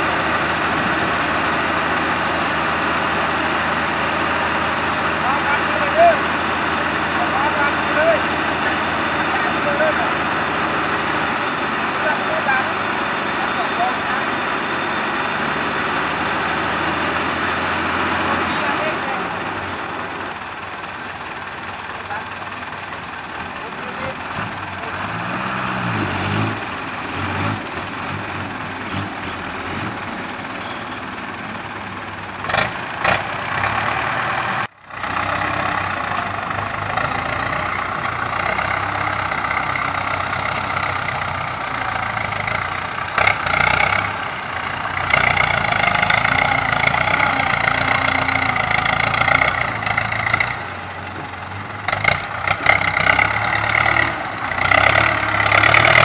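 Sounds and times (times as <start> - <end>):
tractor diesel engine under load: 0.0 - 56.0
truck diesel engine idling: 0.0 - 56.0.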